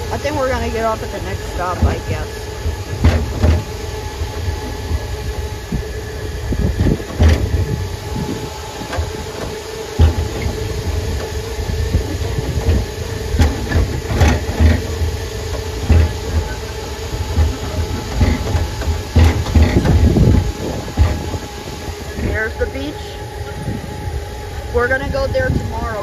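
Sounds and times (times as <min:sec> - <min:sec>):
tram bumping and rattling: 0:00.0 - 0:26.0
tram drive whine: 0:00.0 - 0:26.0.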